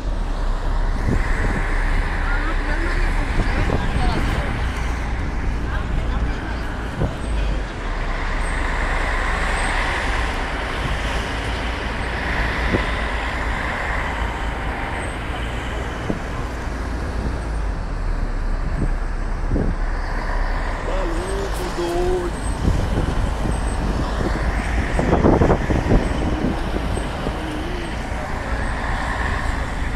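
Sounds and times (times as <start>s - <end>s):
vehicle road and engine rumble: 0.0s - 29.9s.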